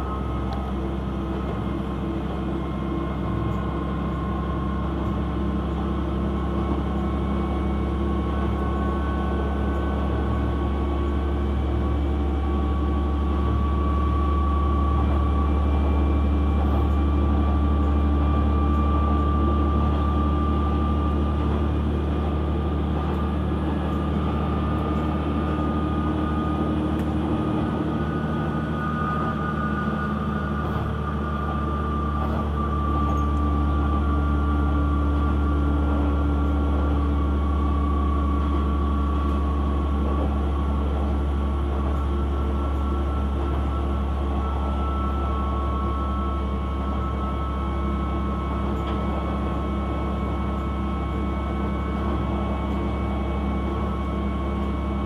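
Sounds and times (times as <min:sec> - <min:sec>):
faint whining tones: 0:00.0 - 0:55.0
railcar engine and rail drone: 0:00.0 - 0:55.0.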